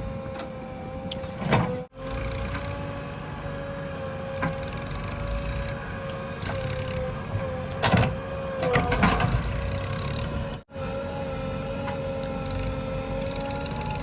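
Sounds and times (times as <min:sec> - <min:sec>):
diesel engine running under load: 0:00.0 - 0:14.0
hydraulic whine: 0:00.0 - 0:14.0.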